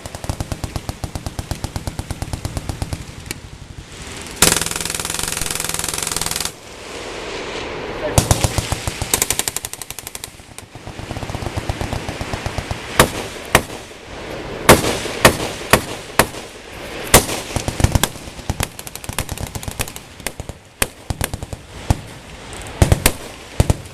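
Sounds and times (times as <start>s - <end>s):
machine guns firing: 0.0s - 3.6s, 4.4s - 6.6s, 8.2s - 13.9s, 14.7s - 16.5s, 17.1s - 22.0s, 22.8s - 23.9s.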